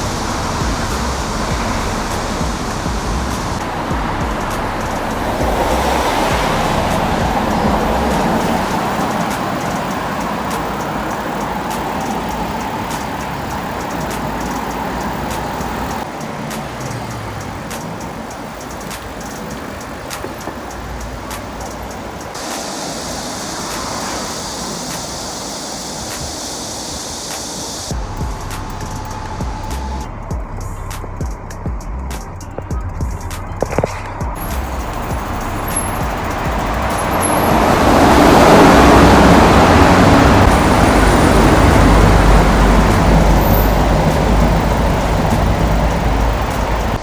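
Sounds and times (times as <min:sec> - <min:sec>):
steady high hiss: 0:00.0 - 0:47.0
street traffic: 0:00.0 - 0:47.0
wind noise: 0:00.0 - 0:47.0.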